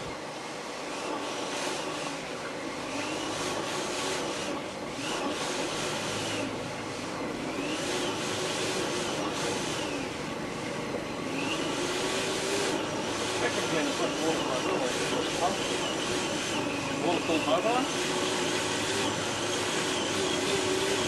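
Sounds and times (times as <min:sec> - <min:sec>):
vacuum cleaner sucking water: 0:00.0 - 0:21.0.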